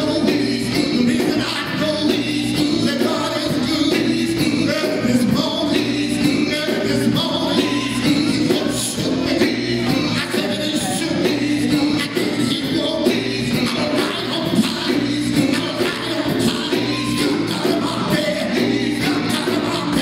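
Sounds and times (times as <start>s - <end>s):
bass guitar: 0.0s - 20.0s
drums: 0.0s - 20.0s
man singing lead: 0.0s - 20.0s.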